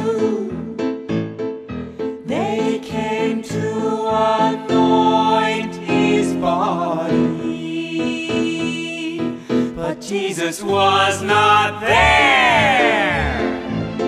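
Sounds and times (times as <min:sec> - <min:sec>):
children's worship song with instruments: 0:02.2 - 0:13.7.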